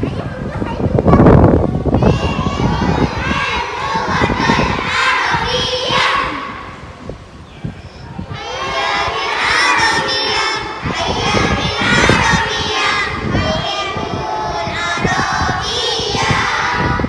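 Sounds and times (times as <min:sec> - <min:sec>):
young children shouting and singing: 0:01.8 - 0:06.9, 0:08.3 - 0:17.0.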